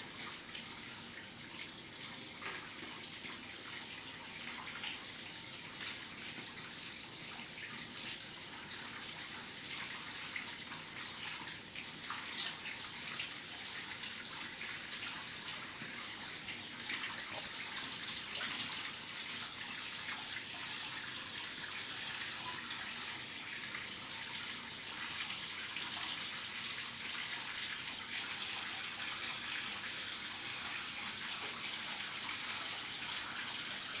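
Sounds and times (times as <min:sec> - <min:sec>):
tap water running into bathtub: 0:00.0 - 0:34.0.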